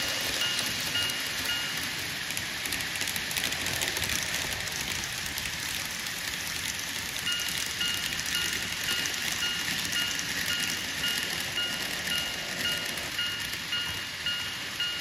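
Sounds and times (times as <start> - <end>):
model train wheels and motor hiss: 0.0 - 15.0
wheels clicking on rails: 0.0 - 15.0.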